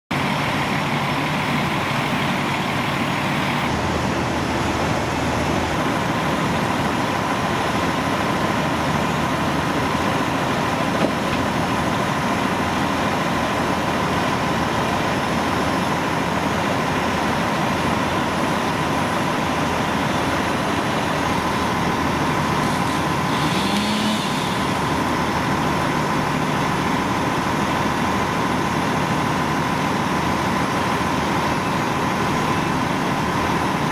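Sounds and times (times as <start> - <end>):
diesel engines running: 0.1 - 33.9
pump whine: 0.1 - 33.9.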